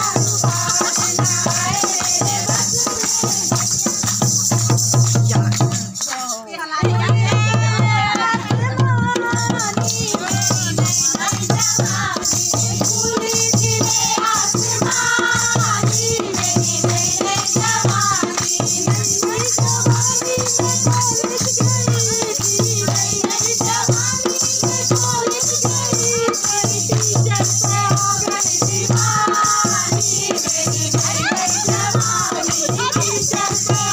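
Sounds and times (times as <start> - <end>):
hand drum beating: 0.0 - 6.1, 6.8 - 33.9
women singing together: 0.0 - 33.9.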